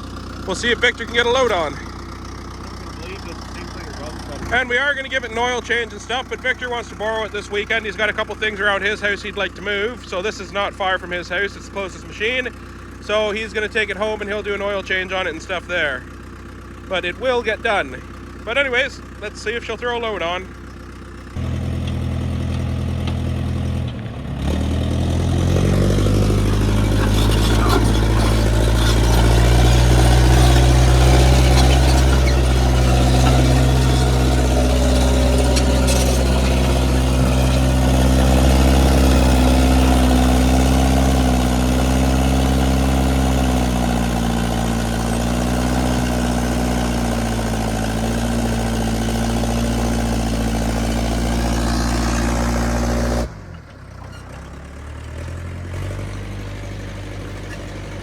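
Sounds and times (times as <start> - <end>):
loader engine revving: 0.0 - 58.0.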